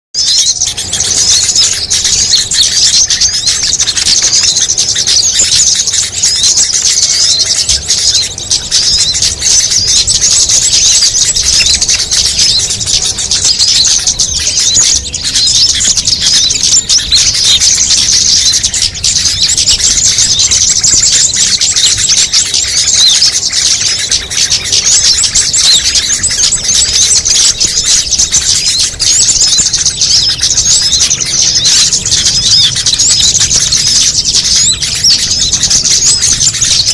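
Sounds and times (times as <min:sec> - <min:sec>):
songbirds chirping and twittering: 0:00.1 - 0:36.9.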